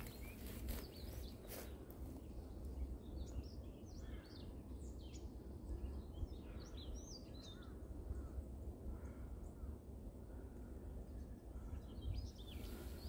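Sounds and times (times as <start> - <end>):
small birds chirping: 0.0 - 8.4, 10.5 - 13.0.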